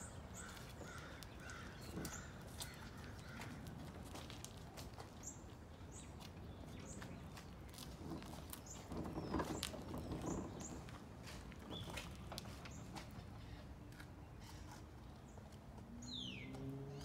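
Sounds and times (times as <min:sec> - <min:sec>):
small birds chirping: 0:00.0 - 0:03.8, 0:05.2 - 0:17.0
small wheels rolling on driveway: 0:00.0 - 0:17.0.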